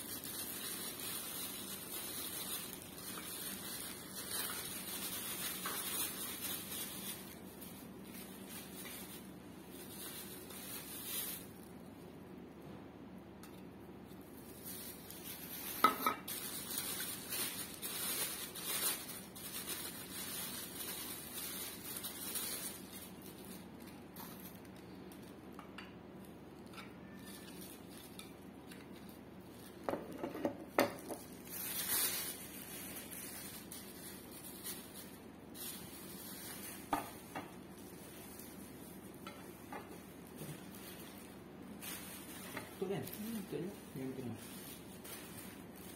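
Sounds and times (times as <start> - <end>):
plastic bags rustling: 0.0 - 12.2, 13.5 - 45.9.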